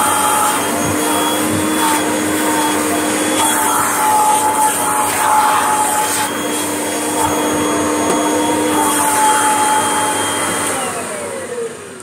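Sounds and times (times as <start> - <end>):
vacuum cleaner motor whining: 0.0 - 12.0.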